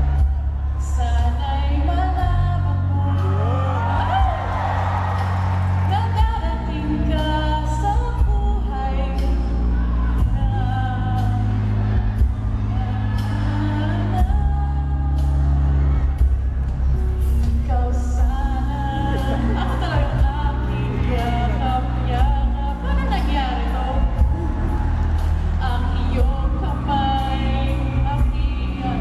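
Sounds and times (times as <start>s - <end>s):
woman singing pop song: 0.0s - 16.5s, 17.2s - 29.0s.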